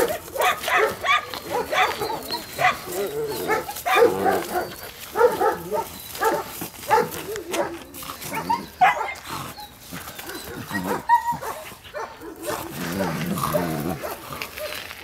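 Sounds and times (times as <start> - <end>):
puppies yapping and growling: 0.0 - 15.0.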